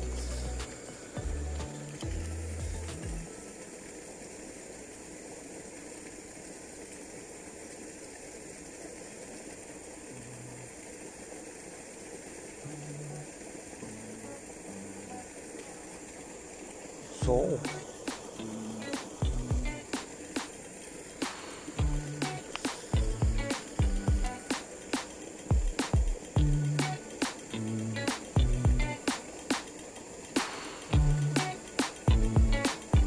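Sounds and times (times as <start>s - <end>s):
outdoor background hiss: 0.0s - 33.0s
spinning reel whirring and ticking: 0.0s - 33.0s.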